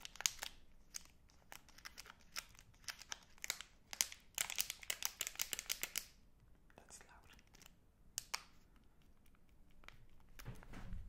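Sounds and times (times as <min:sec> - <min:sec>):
plastic wrapper crinkling: 0:00.0 - 0:06.2, 0:07.2 - 0:10.5.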